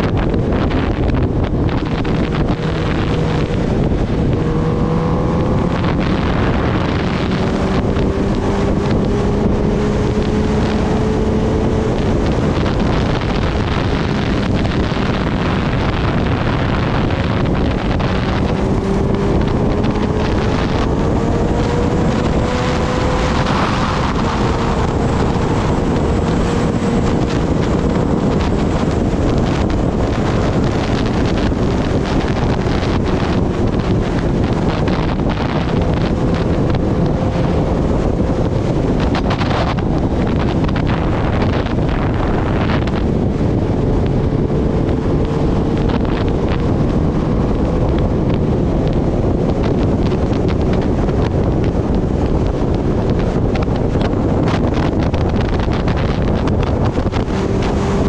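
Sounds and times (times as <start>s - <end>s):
motorcycle engine at speed: 0.0s - 58.0s
wind noise on microphone: 0.0s - 58.0s.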